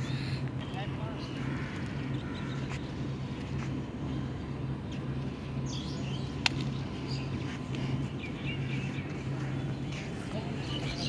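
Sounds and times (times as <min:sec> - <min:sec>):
birds chirping: 0:00.0 - 0:11.0
pulsing low hum: 0:00.0 - 0:11.0.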